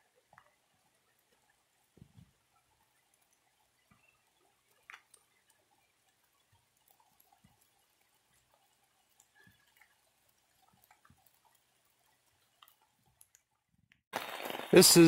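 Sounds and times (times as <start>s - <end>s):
faint ticks: 0.0s - 14.0s.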